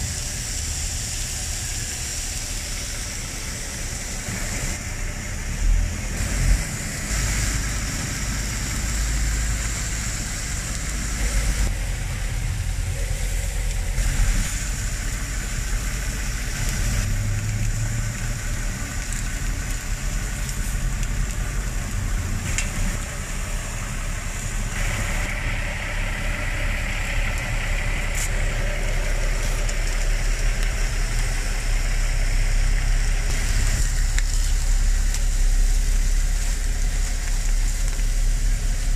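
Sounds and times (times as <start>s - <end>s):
low rumble: 0.0s - 38.9s
meat sizzling on a griddle: 0.0s - 38.9s.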